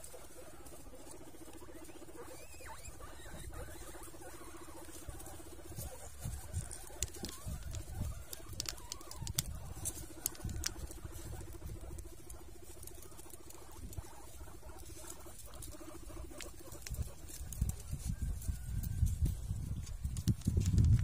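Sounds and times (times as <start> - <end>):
guinea pigs scuffling: 0.0 - 21.0.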